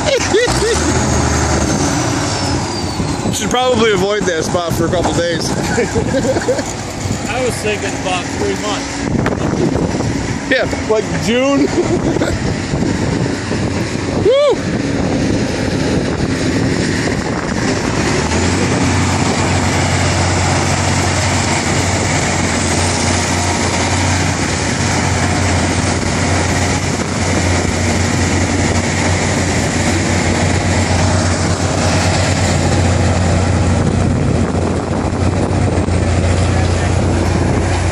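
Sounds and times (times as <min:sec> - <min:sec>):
heavy diesel engines running: 0:00.0 - 0:37.9
strong low drone: 0:00.0 - 0:37.9.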